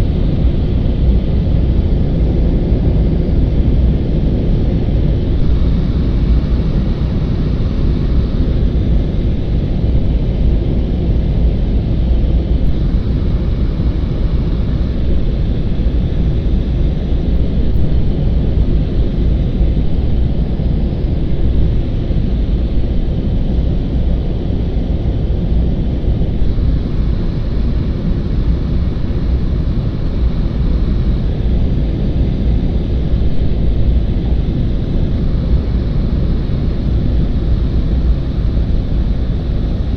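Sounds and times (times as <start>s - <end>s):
propeller aircraft cabin rumble: 0.0s - 39.9s.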